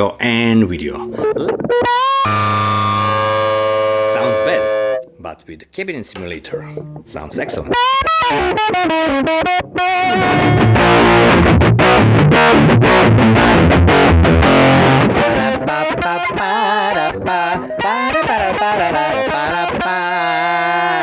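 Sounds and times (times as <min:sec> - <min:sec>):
distorted electric guitar: 0:01.0 - 0:05.1, 0:06.8 - 0:21.0.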